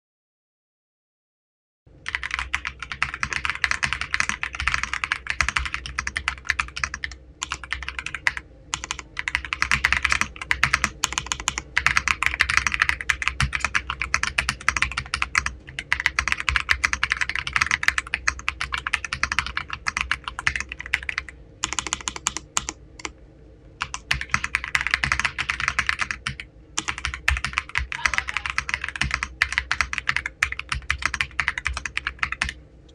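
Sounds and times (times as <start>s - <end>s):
mechanical keyboard typing: 2.0s - 23.1s, 23.8s - 32.6s.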